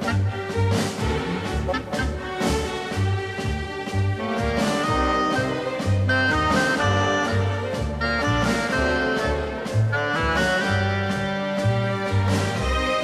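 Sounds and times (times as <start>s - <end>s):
bass line: 0.0s - 13.0s
instrumental music with beat: 0.0s - 13.0s.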